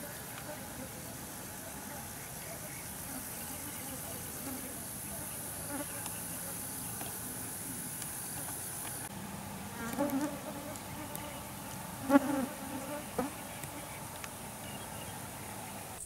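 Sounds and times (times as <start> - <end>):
insects buzzing and chirring: 0.0 - 16.0.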